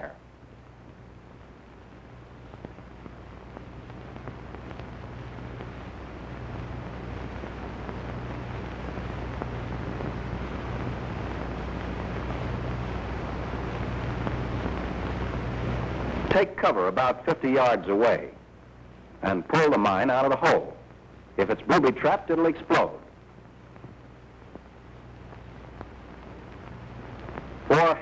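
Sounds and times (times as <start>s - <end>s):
film soundtrack hiss: 0.0s - 28.0s.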